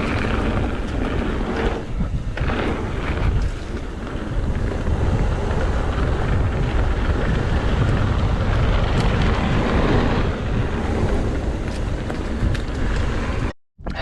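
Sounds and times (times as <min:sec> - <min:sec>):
bike rolling on dirt trail: 0:00.0 - 0:13.5
wind rumbling on microphone: 0:00.0 - 0:14.0.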